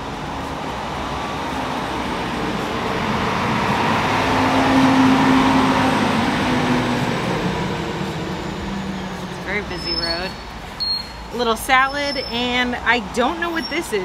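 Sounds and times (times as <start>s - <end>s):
vehicle driving past: 0.0s - 11.8s
road traffic: 0.0s - 14.0s.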